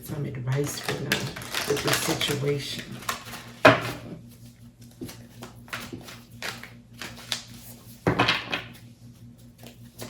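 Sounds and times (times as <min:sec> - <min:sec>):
cards being shuffled: 0:00.5 - 0:10.0.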